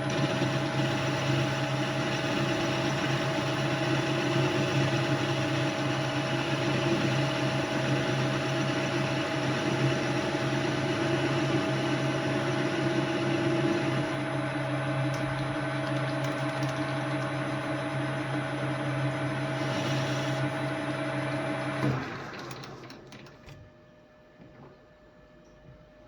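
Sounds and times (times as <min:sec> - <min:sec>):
lathe motor drone: 0:00.0 - 0:22.0.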